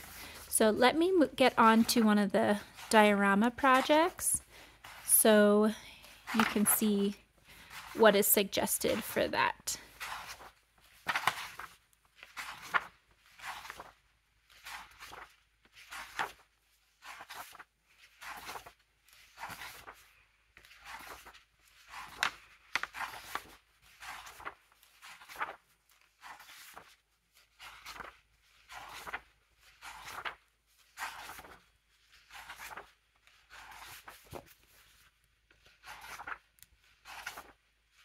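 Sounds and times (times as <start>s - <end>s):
paper pages turning: 6.0s - 6.9s, 7.5s - 38.0s.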